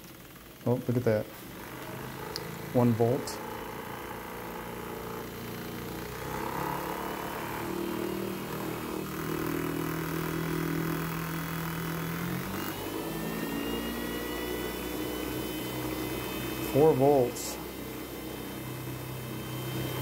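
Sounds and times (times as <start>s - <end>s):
electric motor whirring: 1.4s - 20.0s.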